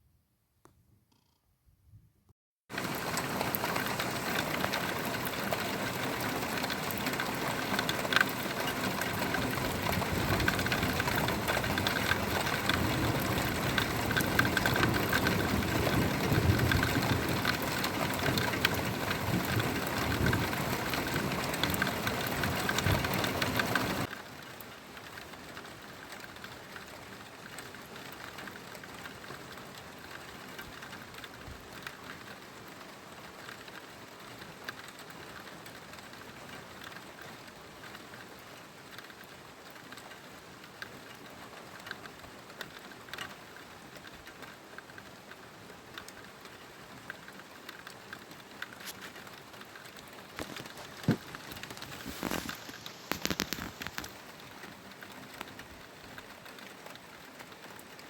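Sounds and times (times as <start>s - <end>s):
heavy rain falling: 2.7s - 58.0s.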